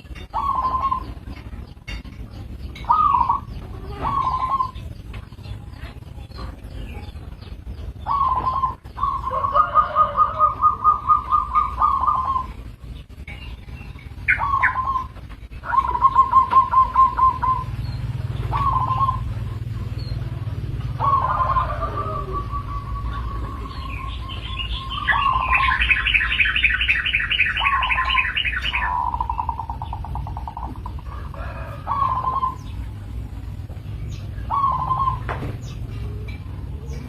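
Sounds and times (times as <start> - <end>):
dove cooing: 0.0 - 37.0.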